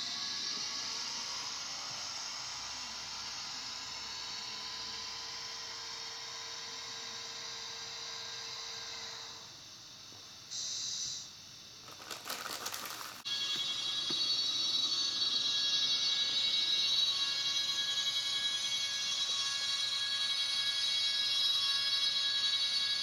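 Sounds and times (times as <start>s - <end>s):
model locomotive running whine: 0.0s - 23.0s.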